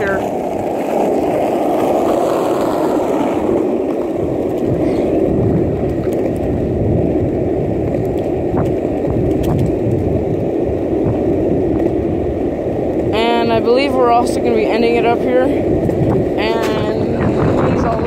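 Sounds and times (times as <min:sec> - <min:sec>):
wheels rolling over asphalt: 0:00.0 - 0:18.0.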